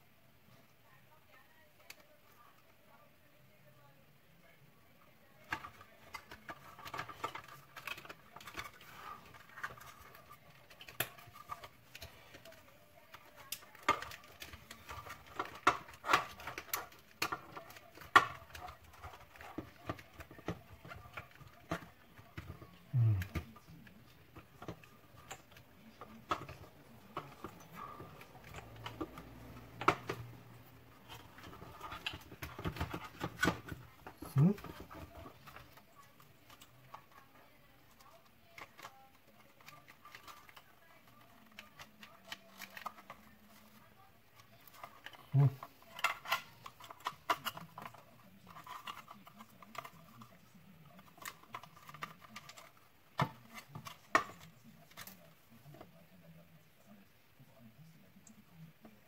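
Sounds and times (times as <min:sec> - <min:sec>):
plastic parts clicking and knocking: 0:05.4 - 0:56.0.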